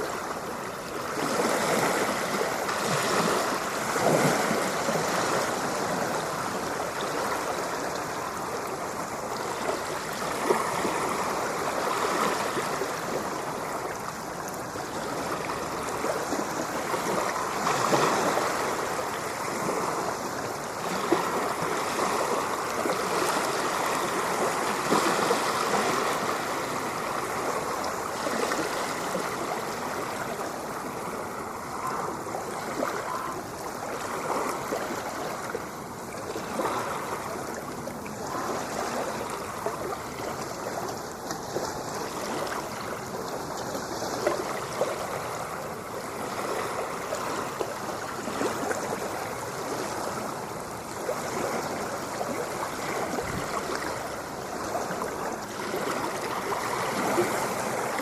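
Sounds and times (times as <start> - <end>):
ocean water churning: 0.0 - 58.0.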